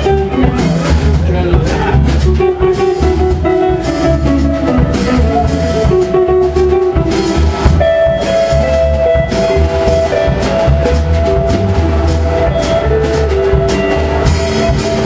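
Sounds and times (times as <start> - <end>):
drum kit with cymbals: 0.0 - 15.0
electric guitar: 0.0 - 15.0
pulsing bass line: 0.0 - 15.0.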